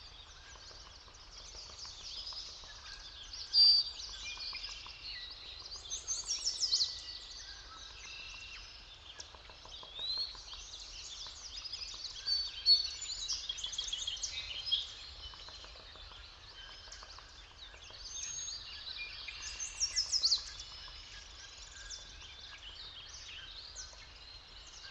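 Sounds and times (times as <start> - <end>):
songbirds singing and chirping: 0.0 - 24.9.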